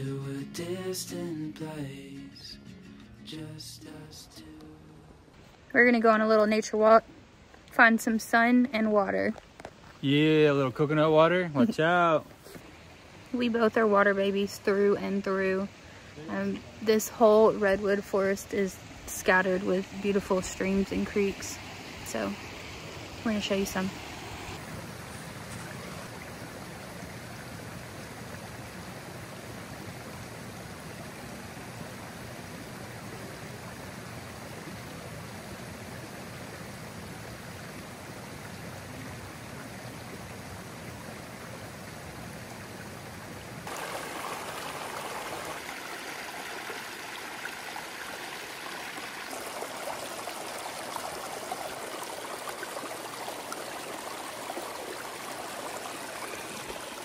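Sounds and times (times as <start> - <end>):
creek water rushing and trickling: 0.0 - 57.0.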